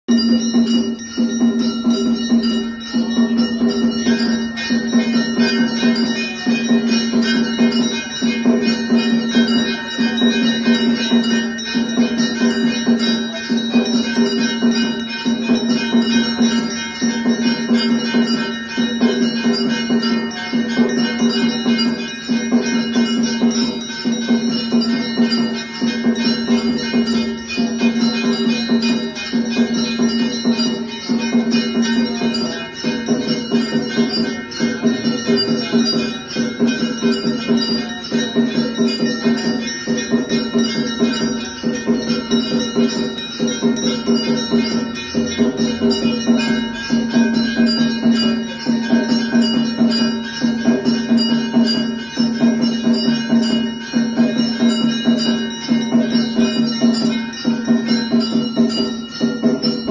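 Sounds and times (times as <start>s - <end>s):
percussion: 0.0s - 59.9s
ringing bells: 0.1s - 59.9s.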